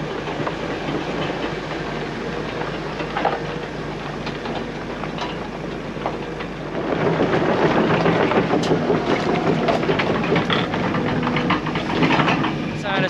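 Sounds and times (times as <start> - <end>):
diesel machinery engine running: 0.0 - 13.0.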